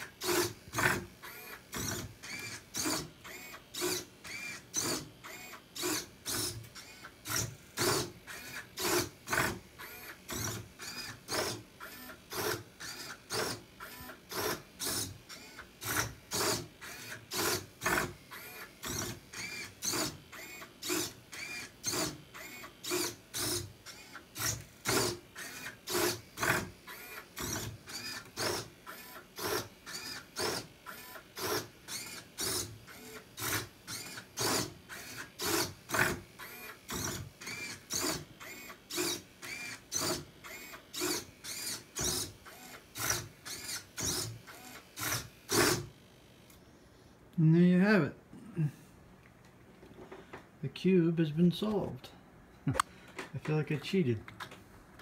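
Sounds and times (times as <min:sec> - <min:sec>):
servo motors whirring and clacking: 0:00.0 - 0:46.7.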